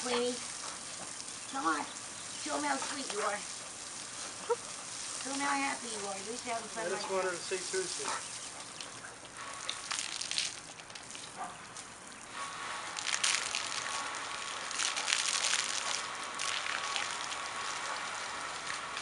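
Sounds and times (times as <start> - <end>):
hose spraying on wet concrete: 0.0 - 19.0.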